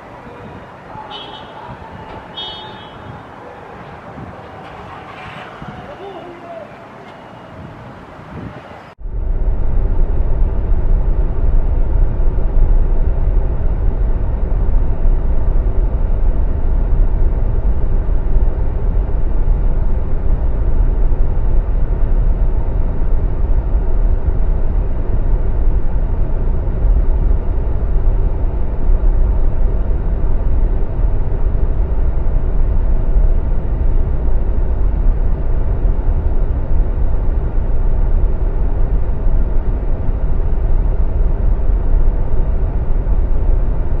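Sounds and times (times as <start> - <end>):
low engine rumble: 0.0 - 44.0.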